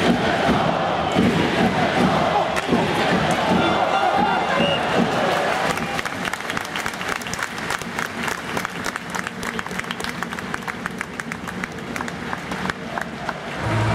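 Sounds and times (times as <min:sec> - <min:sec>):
crowd noise: 0:00.0 - 0:13.9
crowd clapping: 0:01.2 - 0:03.6, 0:04.2 - 0:13.9.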